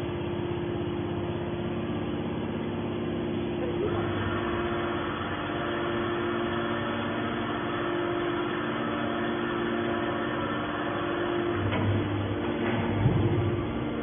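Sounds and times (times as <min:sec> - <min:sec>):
hydraulic power unit humming: 0:00.0 - 0:14.0.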